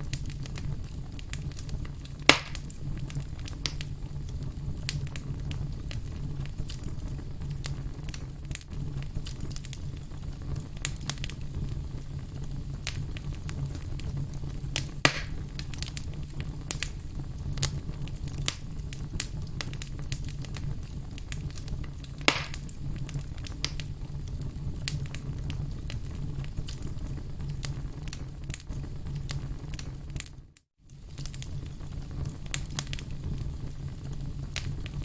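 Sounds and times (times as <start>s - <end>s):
firewood crackling and popping: 0.0s - 35.0s
low rumble of flames: 0.0s - 35.0s.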